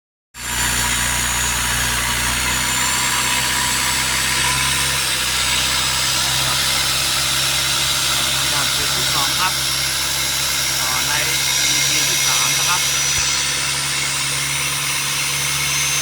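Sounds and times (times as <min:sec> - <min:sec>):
boat engine running: 0:00.4 - 0:16.0.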